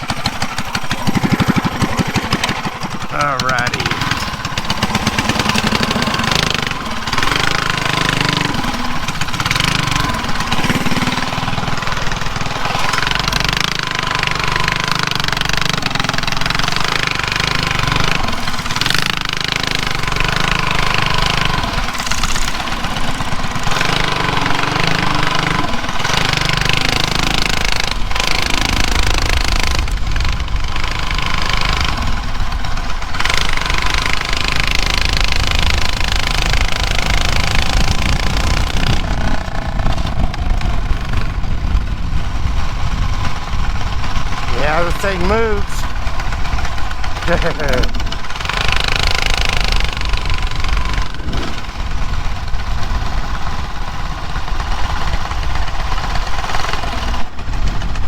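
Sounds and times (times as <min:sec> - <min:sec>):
mini bike engine running hard: 0:00.0 - 0:58.0.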